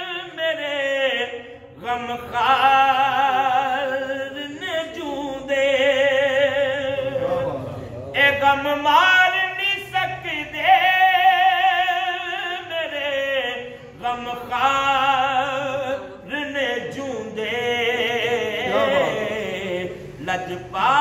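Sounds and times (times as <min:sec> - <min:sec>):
man singing unaccompanied: 0:00.0 - 0:21.0.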